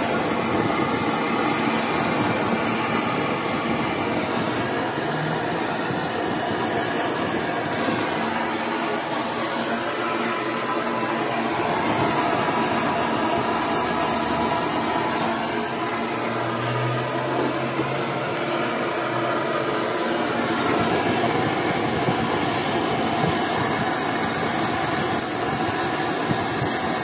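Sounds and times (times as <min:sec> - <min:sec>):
steady machine noise: 0:00.0 - 0:27.0.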